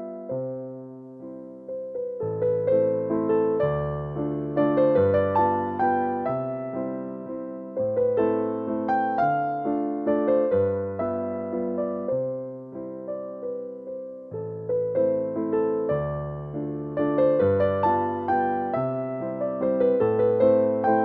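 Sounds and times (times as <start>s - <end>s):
soft piano chords: 0.0s - 21.0s.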